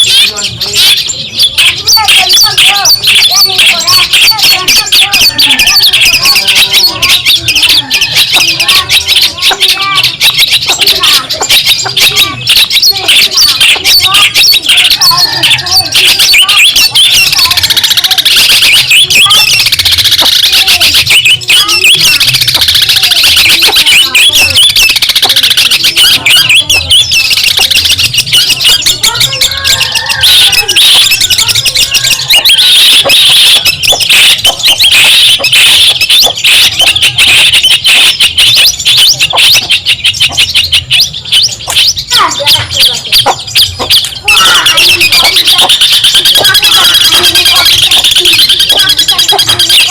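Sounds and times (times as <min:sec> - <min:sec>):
bird harsh chattering song: 0:00.0 - 0:49.9.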